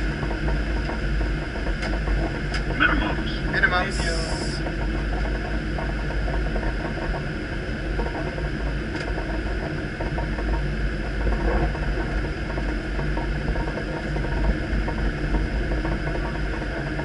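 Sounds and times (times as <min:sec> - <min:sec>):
airflow and engine rumble: 0:00.0 - 0:17.0.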